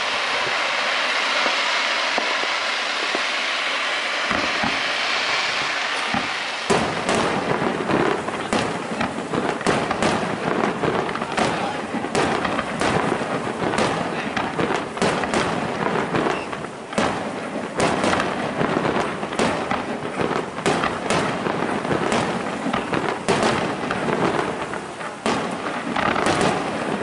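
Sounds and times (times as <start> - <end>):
echoing firework reports: 0.0 - 27.0
firework bangs: 0.0 - 27.0.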